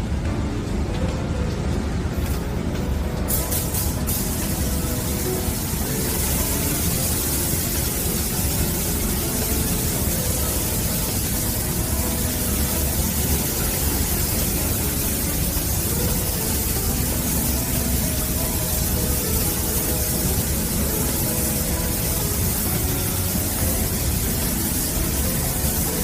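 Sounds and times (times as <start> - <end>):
steady hissing noise: 0.0 - 26.0.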